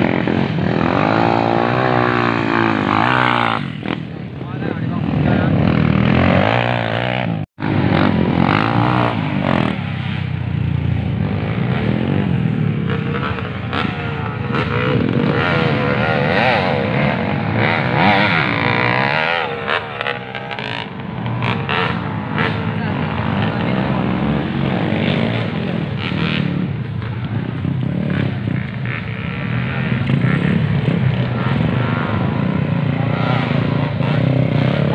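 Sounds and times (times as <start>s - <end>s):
dirt bike engines revving: 0.0s - 34.9s.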